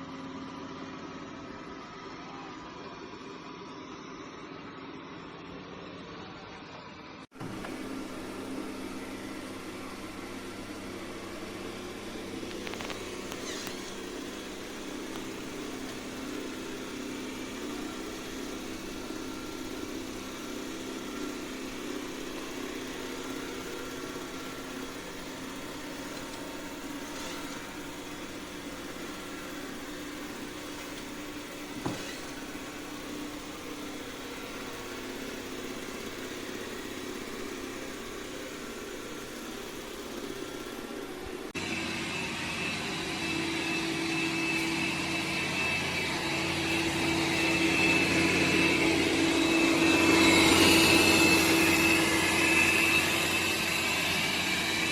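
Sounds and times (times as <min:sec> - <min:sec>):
robot vacuum motor hum: 0:07.3 - 0:54.9.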